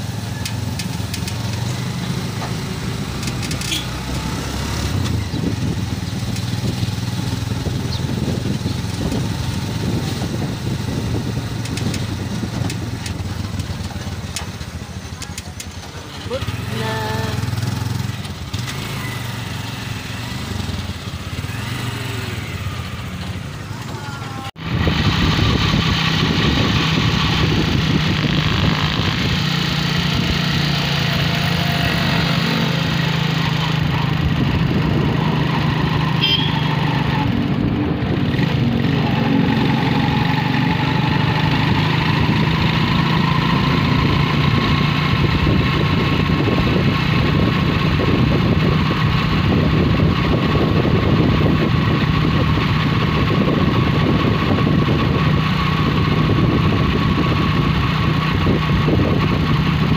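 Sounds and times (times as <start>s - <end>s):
road noise: 0.0s - 59.9s
vehicle engine droning: 0.0s - 59.9s.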